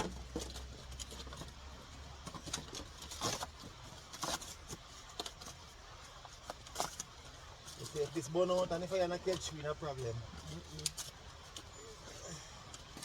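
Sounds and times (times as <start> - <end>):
paper and firewood rustling: 0.0 - 13.0.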